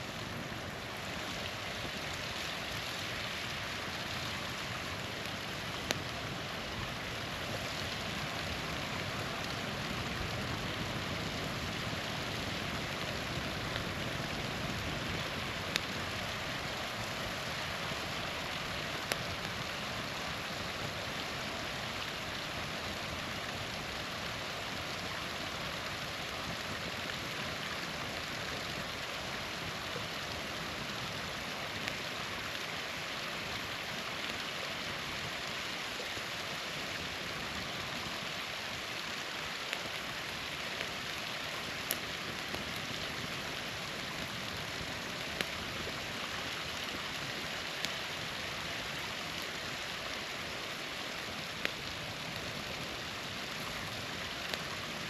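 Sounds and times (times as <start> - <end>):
campfire popping and crackling: 0.0 - 55.0
small waterfall rushing: 0.0 - 55.0.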